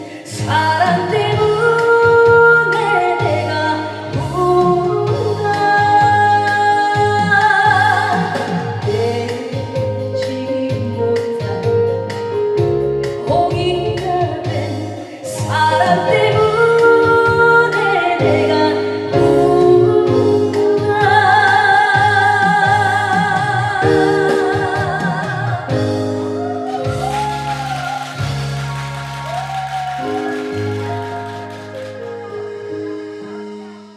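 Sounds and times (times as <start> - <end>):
woman singing a ballad: 0.0 - 28.4
electronic organ: 0.0 - 33.9.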